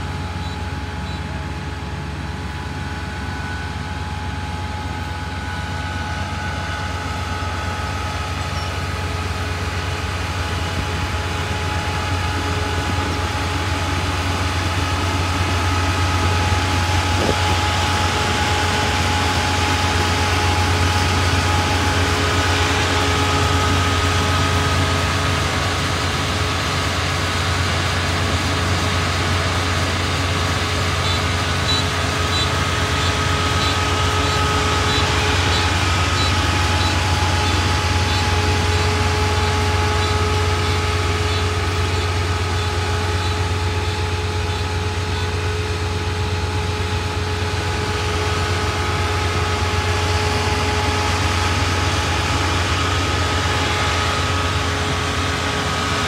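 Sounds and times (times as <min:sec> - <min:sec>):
combine harvester engine humming: 0:00.0 - 0:56.0.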